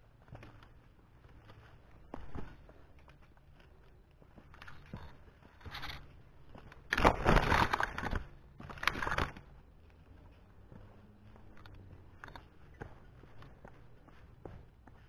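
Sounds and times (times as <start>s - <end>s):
footsteps on dirt trail: 0.0s - 15.0s.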